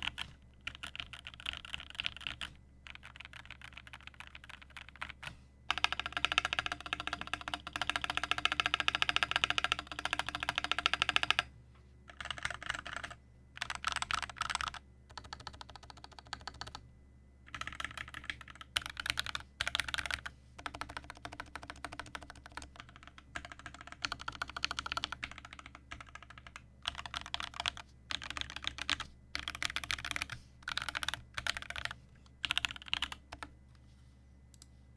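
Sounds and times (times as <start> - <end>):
mechanical keyboard typing: 0.0 - 11.5, 12.1 - 16.8, 17.5 - 33.5.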